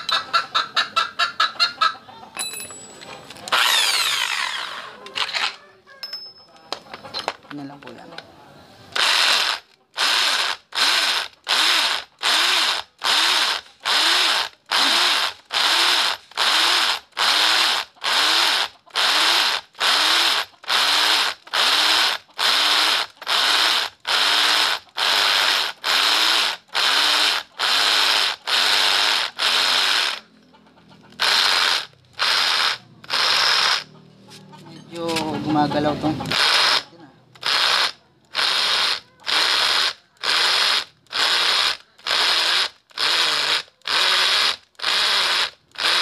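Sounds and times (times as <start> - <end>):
hammer drill cutting concrete: 3.5 - 5.5, 9.0 - 30.3, 31.2 - 33.9, 35.0 - 46.0.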